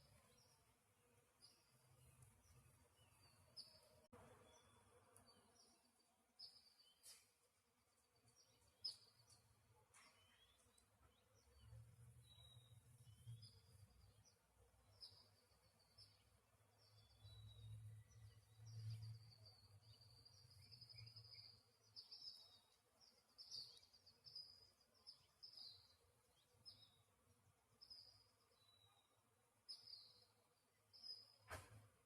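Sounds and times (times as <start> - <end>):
bird chirping: 0.0 - 31.5.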